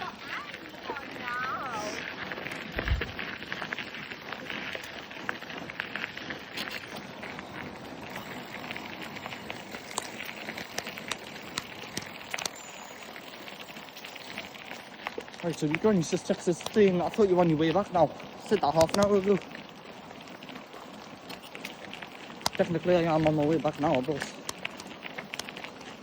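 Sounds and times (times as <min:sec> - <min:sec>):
bicycle tyres crunching on path: 0:00.0 - 0:26.0.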